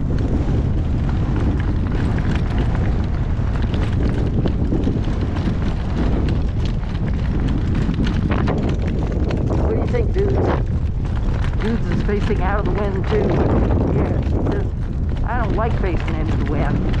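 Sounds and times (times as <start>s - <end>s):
horse hoofbeats clicking: 0.0s - 17.0s
wind buffeting microphone: 0.0s - 17.0s.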